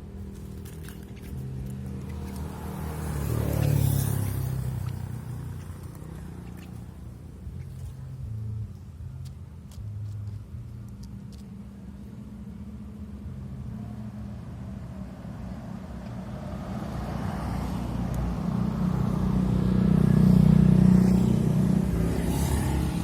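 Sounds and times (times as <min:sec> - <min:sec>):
vehicle engine passing: 0:00.0 - 0:08.8, 0:13.2 - 0:23.0.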